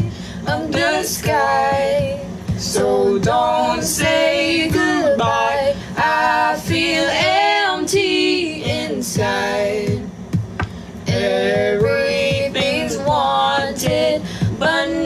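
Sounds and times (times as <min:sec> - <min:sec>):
woman singing pop song: 0:00.0 - 0:10.1, 0:11.1 - 0:15.0
soft backing music: 0:00.0 - 0:15.0.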